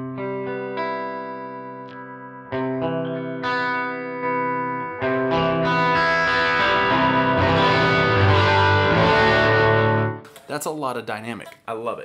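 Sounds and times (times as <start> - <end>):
electric guitar chords: 0.0 - 10.2.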